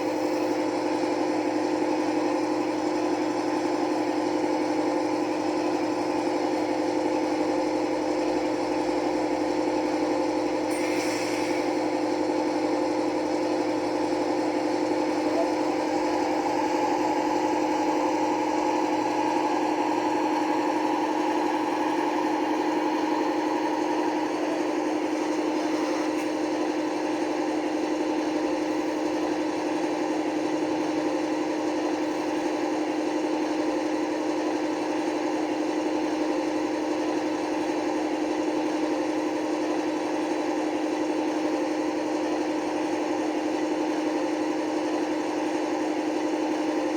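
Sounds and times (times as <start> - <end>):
diesel idle through small speaker: 0.0 - 46.9.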